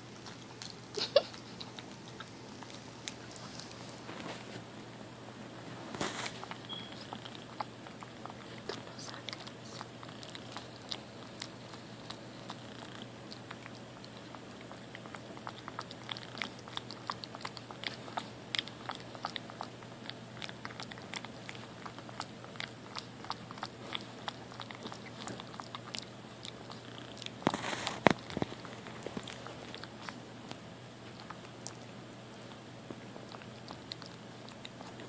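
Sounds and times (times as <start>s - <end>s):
puppy lapping milk: 6.0s - 35.0s.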